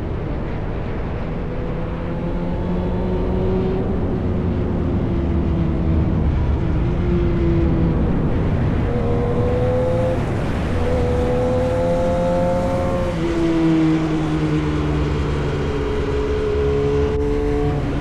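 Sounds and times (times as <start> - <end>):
wind and road rumble: 0.0 - 18.0
motorcycle engine revving: 1.3 - 18.0.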